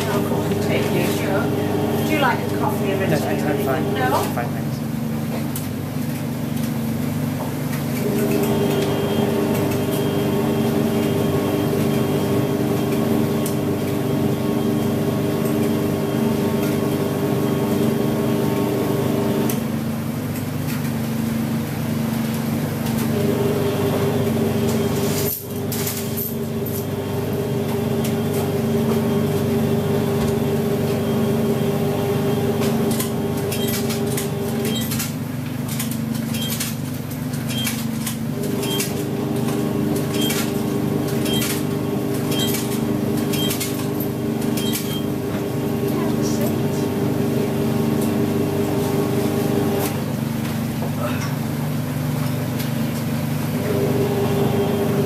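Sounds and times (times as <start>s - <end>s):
washing machine drum motor humming: 0.0s - 55.0s.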